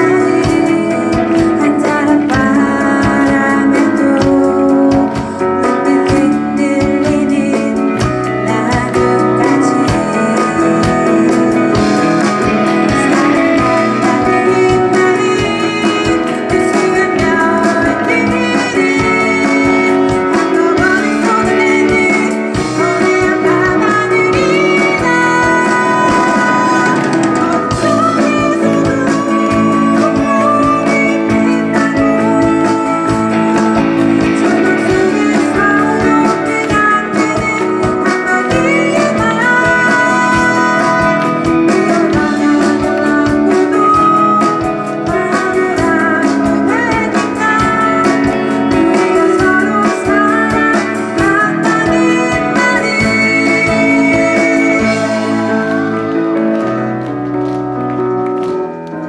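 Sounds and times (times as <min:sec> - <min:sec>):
woman singing: 0:00.0 - 0:57.0
live band playing: 0:00.0 - 0:59.0.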